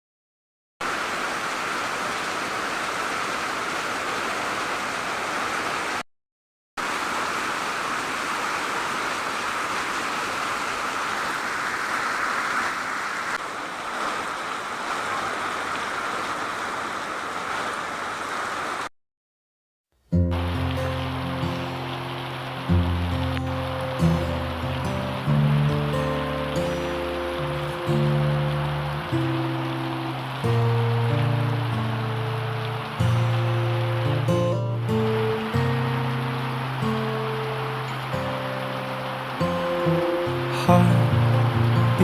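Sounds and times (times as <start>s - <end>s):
rushing water: 0.8s - 6.0s, 6.8s - 18.9s, 20.1s - 42.0s.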